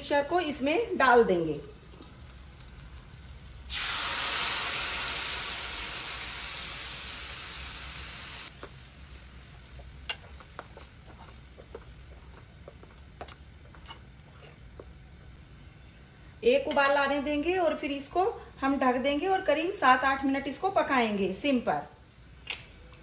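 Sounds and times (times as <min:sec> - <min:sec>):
hot oil sizzling: 0:00.2 - 0:22.3.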